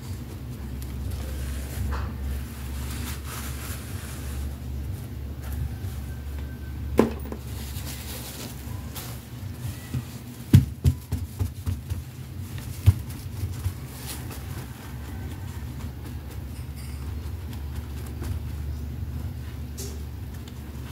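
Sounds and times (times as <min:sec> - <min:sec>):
lace gowns rustling: 0:00.0 - 0:06.6, 0:07.3 - 0:10.5, 0:12.0 - 0:20.9
steady low hum: 0:00.0 - 0:20.9.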